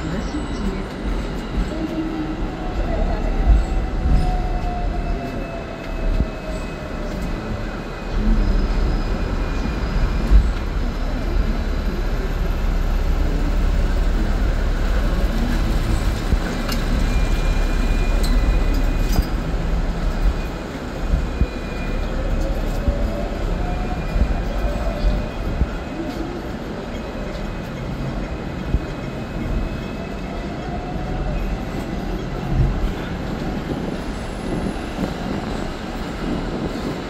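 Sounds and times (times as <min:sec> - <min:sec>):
tram wheels rumbling on rails: 0:00.0 - 0:37.0.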